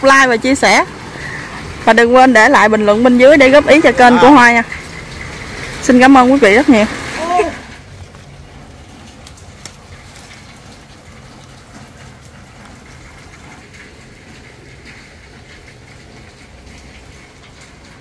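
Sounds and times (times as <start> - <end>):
rain patter: 0.0 - 18.0
water drips ticking: 0.0 - 18.0.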